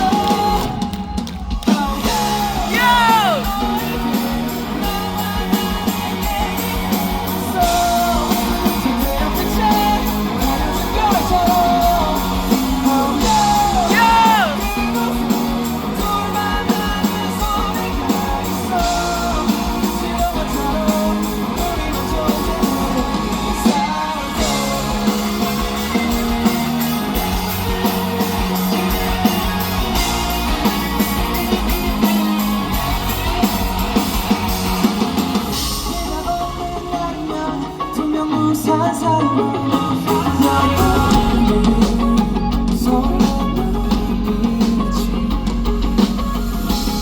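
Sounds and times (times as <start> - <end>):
live rock band playing: 0.0 - 47.0.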